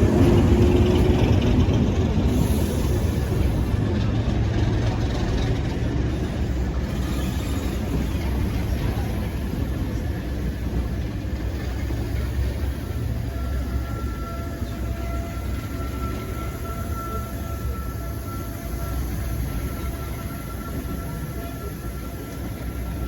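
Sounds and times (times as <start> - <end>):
diesel locomotive engine rumble: 0.0 - 23.0.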